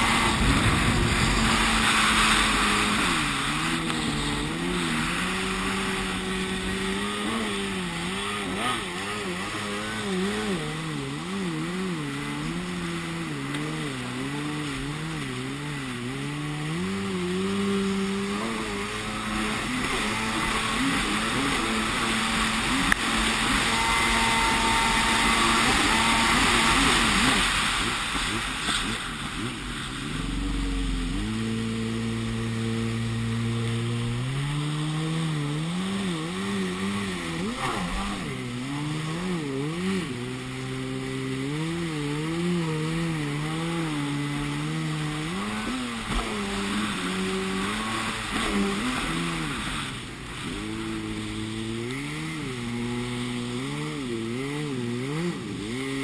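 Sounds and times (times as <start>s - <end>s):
jet ski engine revving: 0.0s - 56.0s
water spray and wind rushing: 0.0s - 56.0s.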